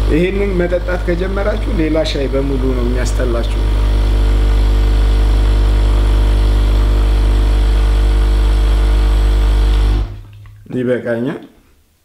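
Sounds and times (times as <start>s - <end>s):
electric mains hum: 0.0s - 12.0s.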